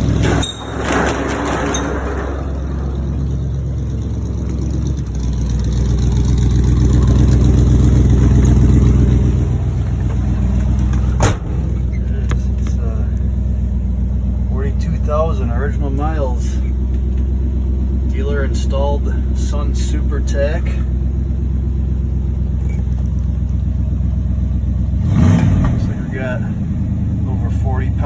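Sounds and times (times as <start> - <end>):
pickup truck engine accelerating: 0.0 - 28.0.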